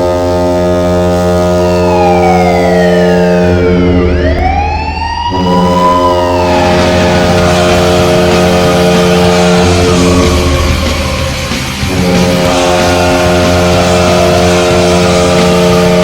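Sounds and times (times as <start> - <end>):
goal horn blaring low chord: 0.0 - 4.4, 5.3 - 16.0
siren-like gliding tone: 0.0 - 16.0.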